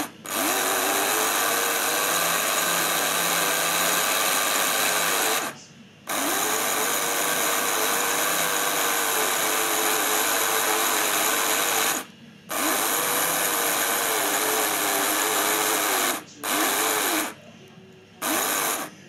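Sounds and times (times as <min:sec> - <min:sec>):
small electric motor whirring: 0:00.0 - 0:17.4, 0:18.2 - 0:18.9.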